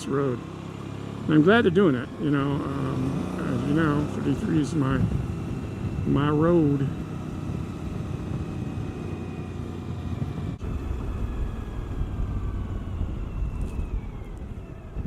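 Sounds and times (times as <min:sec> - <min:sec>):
low wind rumble: 0:00.0 - 0:15.0
motorcycle engine running: 0:00.0 - 0:15.0.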